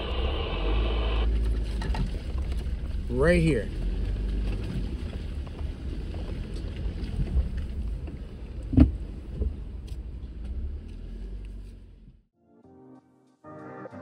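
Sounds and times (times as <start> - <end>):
low engine and road rumble: 0.0 - 12.3.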